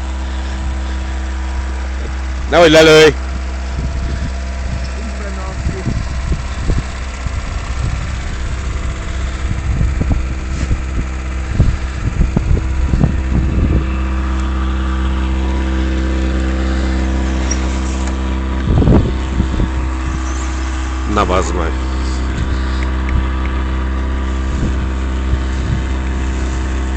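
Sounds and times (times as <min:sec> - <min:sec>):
engine humming: 0:00.0 - 0:26.9.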